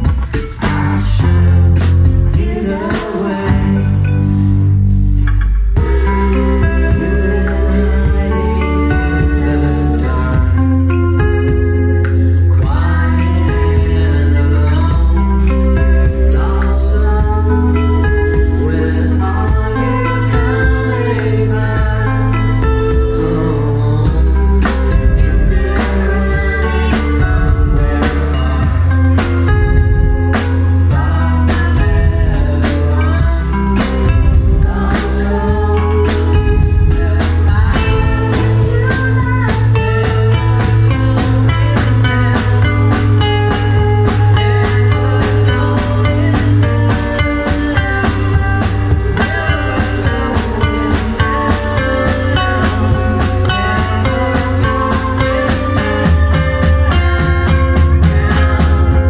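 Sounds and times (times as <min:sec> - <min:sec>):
electric guitar: 0:00.0 - 0:59.0
woman singing: 0:02.3 - 0:04.0, 0:05.8 - 0:11.8, 0:12.4 - 0:59.0.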